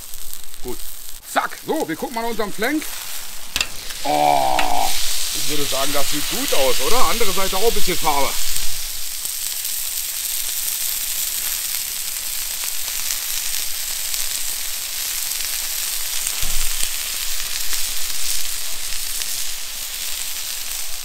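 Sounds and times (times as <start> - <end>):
meat sizzling on hot plate: 0.0 - 21.0.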